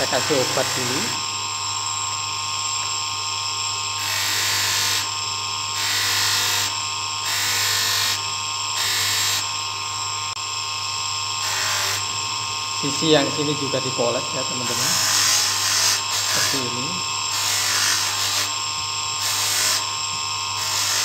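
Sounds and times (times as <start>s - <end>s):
polishing motor hum and whine: 0.0s - 21.0s.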